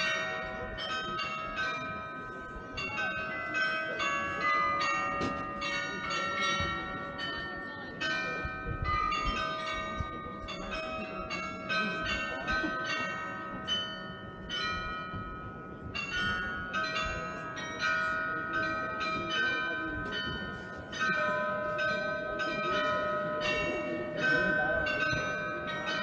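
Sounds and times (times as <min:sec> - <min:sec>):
glockenspiel bells playing a tune: 0:00.0 - 0:26.0.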